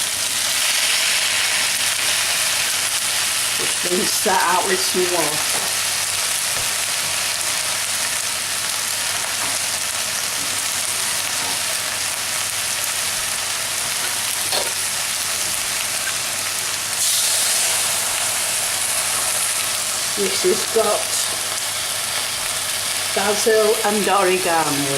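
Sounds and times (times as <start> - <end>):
meat sizzling in a hot pan: 0.0 - 24.9.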